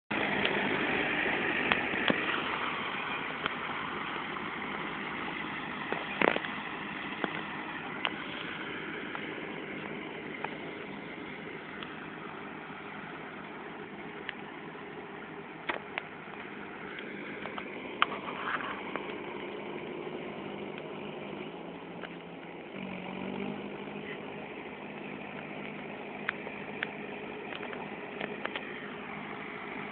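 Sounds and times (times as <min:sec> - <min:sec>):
tractor diesel engine running: 0:00.1 - 0:29.9.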